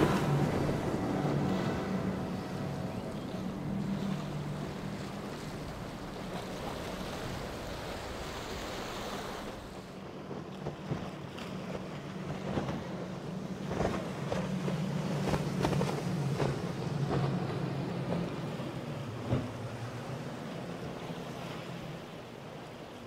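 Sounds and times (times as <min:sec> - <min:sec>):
hull slapping on waves: 0:00.0 - 0:23.0
outboard engines droning: 0:00.0 - 0:23.0
rushing water and wind: 0:00.0 - 0:23.0.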